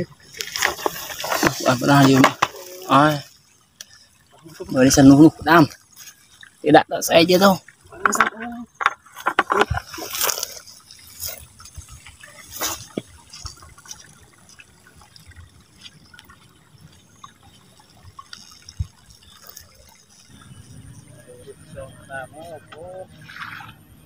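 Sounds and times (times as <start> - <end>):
water dripping and trickling: 0.0 - 24.0
water splashing: 0.0 - 24.0.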